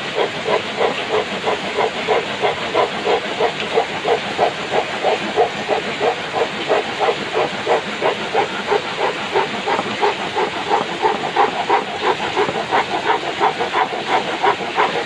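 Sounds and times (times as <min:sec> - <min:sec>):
handsaw cutting wooden board: 0:00.0 - 0:15.0.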